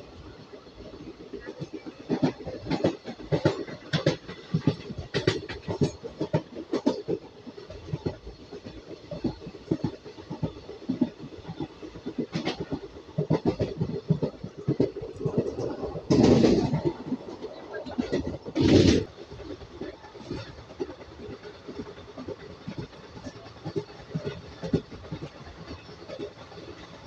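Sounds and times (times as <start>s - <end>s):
train wheels clattering over rails: 0.0s - 27.0s.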